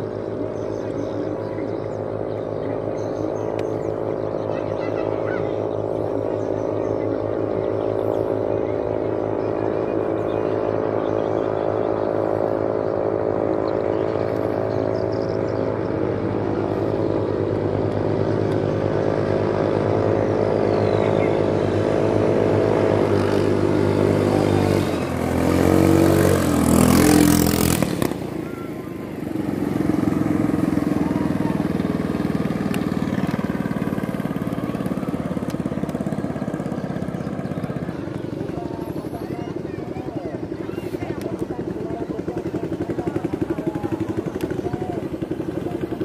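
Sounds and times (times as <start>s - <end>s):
motor canoe engines running: 0.0s - 46.0s
racing boat engine: 0.0s - 46.0s.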